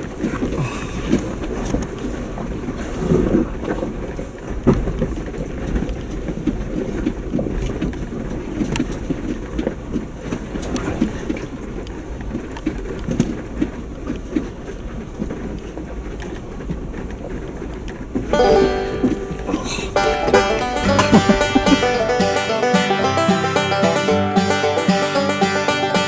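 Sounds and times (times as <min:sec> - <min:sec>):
body and suspension rattles: 0:00.0 - 0:24.6
low engine rumble: 0:00.0 - 0:26.0.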